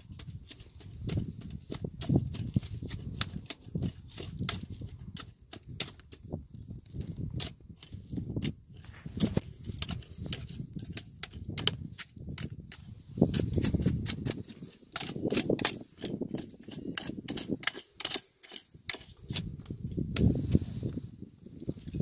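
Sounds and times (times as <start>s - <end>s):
hand tools clicking against rock: 0.0s - 20.6s, 21.6s - 22.0s.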